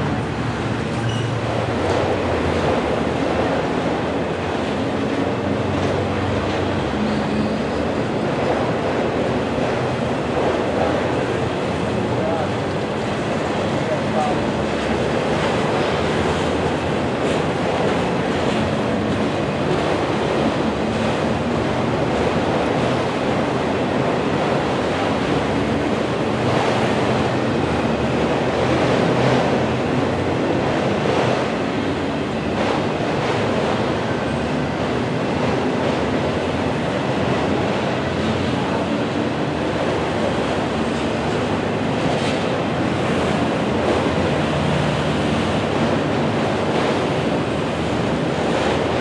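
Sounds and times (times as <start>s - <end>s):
train wheels on rails: 0.0s - 49.0s.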